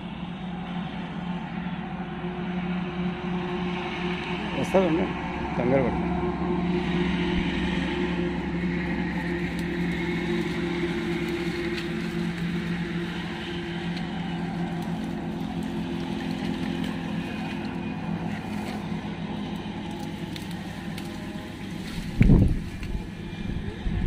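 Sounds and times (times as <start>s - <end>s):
motor humming steadily: 0.0s - 24.0s
noisy wash: 0.0s - 24.0s.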